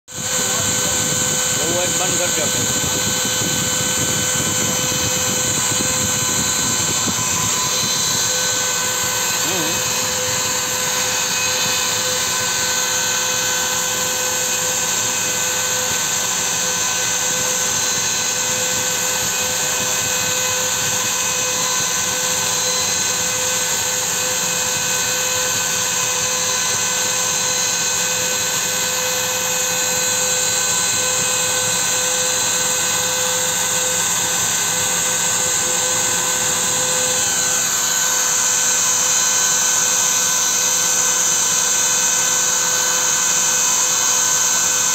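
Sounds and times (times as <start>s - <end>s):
cnc router spindle whine: 0.1s - 44.9s.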